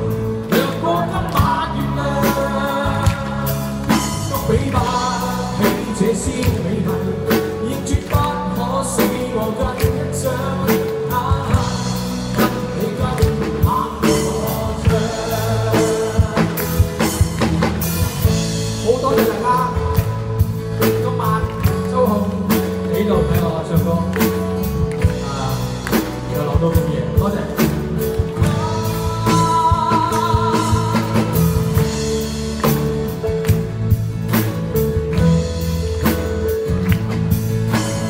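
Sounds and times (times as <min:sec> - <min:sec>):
man singing pop ballad: 0:00.0 - 0:34.0
acoustic guitar: 0:00.0 - 0:38.0.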